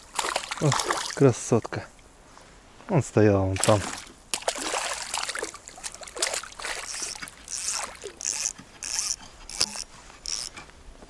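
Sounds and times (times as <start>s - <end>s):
water splashing and trickling: 0.0s - 2.1s, 3.4s - 10.6s.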